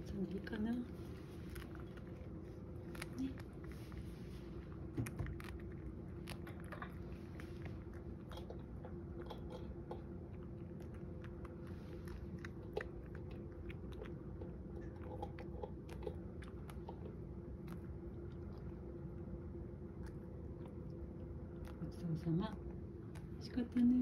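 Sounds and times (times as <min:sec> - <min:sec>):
faint steady hum: 0:00.0 - 0:24.0
cat crunching dried fish: 0:00.5 - 0:24.0.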